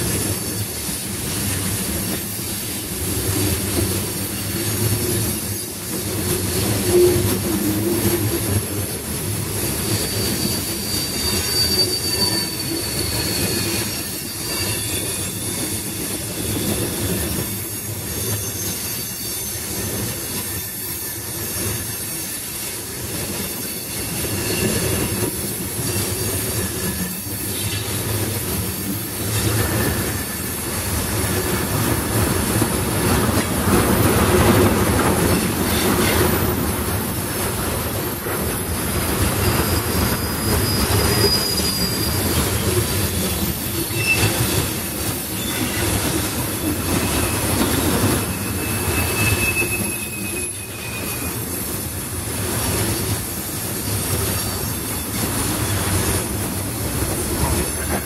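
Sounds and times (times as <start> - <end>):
steel wheels rumbling on rail: 0.0 - 58.0
high wheel squeal: 4.1 - 58.0.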